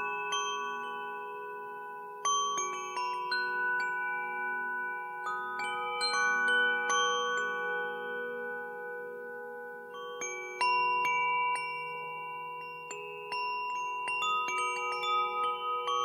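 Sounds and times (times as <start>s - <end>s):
metal wind chime ringing: 0.0s - 16.0s.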